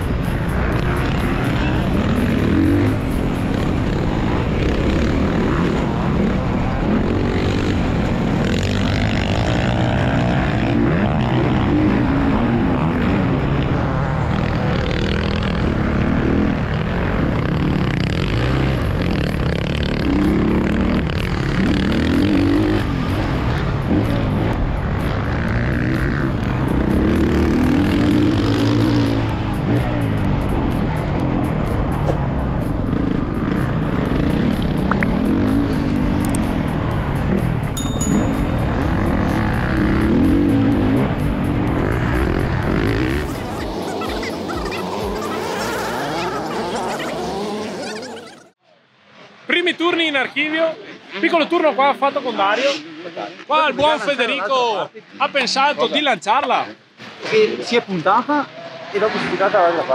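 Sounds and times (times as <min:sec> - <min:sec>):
motocross bike engine revving: 0:00.1 - 0:48.5.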